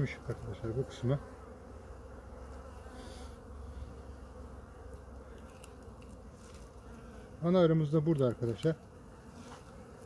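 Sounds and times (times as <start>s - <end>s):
honeybees humming: 0.0s - 10.0s.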